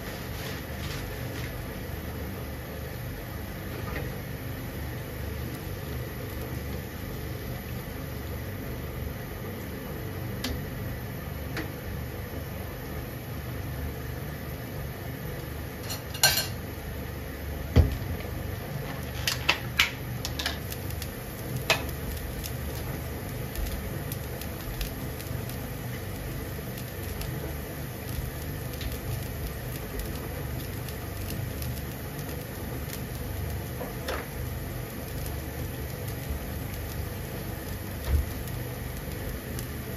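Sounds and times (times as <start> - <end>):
water boiling in a frying pan: 0.0 - 39.9.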